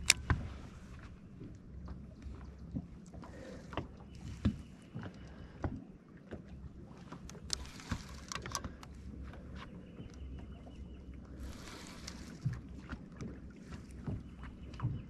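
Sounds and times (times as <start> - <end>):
waves lapping against boat hull: 0.0 - 15.0.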